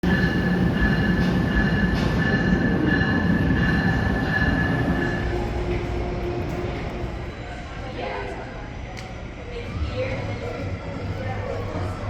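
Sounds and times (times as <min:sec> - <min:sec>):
train rumbling on tracks: 0:00.0 - 0:12.0.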